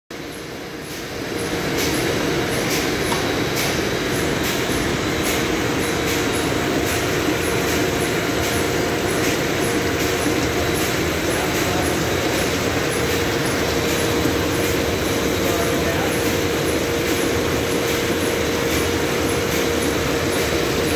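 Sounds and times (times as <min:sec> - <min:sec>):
mechanical hum of screw press: 0:00.2 - 0:20.9.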